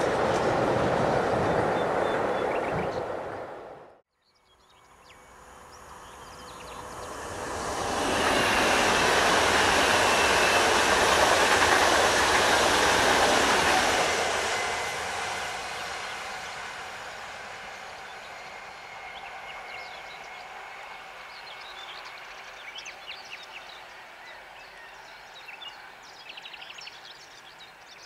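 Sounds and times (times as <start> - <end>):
electric train passing: 0.0 - 4.0, 4.9 - 26.1
freight train rail noise: 0.0 - 4.0, 4.9 - 28.0.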